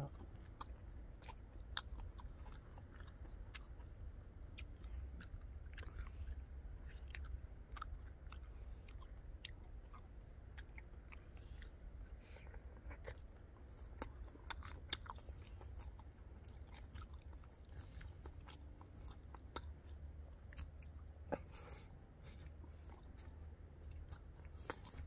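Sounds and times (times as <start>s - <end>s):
low steady rumble: 0.0s - 25.0s
man chewing food: 0.0s - 25.0s.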